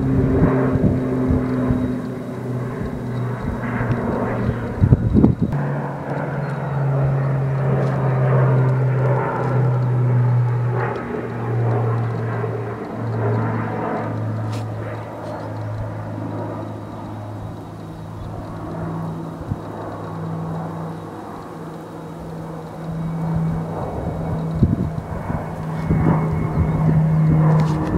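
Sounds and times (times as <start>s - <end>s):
propeller aircraft engines droning: 0.0s - 27.9s.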